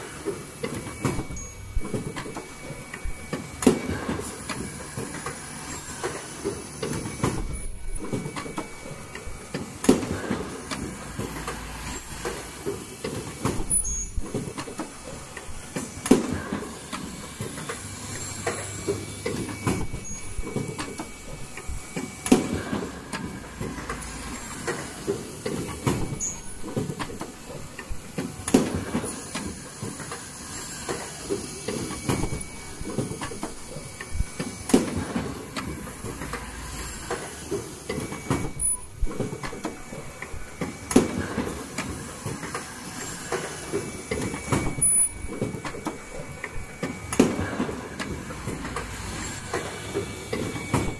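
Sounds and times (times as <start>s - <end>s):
machine clattering and clicking: 0.0s - 50.9s.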